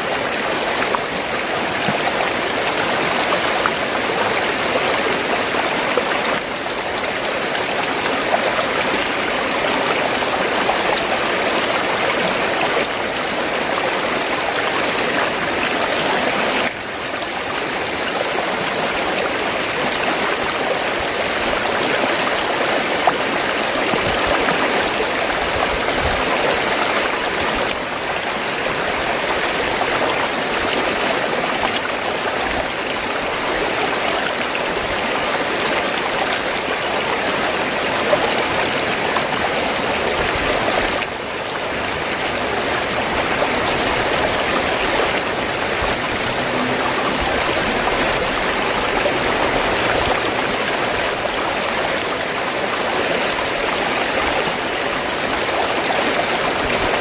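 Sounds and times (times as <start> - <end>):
stream rushing and gurgling: 0.0 - 57.0.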